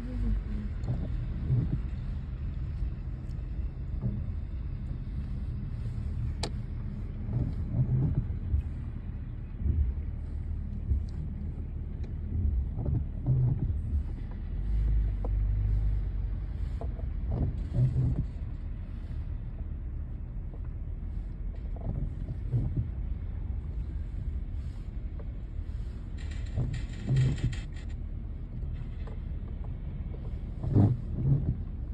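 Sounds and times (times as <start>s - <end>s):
vehicle rumbling in motion: 0.0s - 31.9s.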